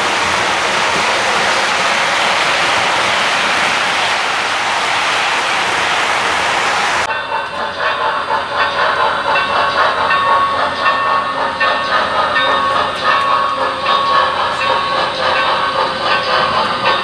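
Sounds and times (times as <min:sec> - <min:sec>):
model train clattering on track: 0:00.0 - 0:04.3, 0:07.0 - 0:17.0
rushing hiss: 0:00.0 - 0:17.0.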